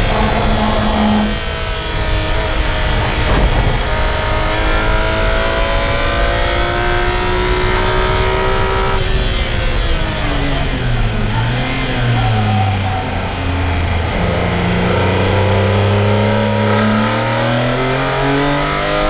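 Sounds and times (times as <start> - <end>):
car engine at high revs: 0.0 - 19.0
road and tyre noise: 0.0 - 19.0.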